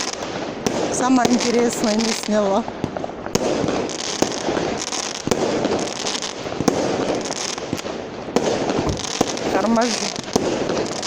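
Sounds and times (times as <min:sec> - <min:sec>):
fireworks bangs: 0:00.0 - 0:11.0
fireworks crackling and fizzing: 0:00.0 - 0:11.0.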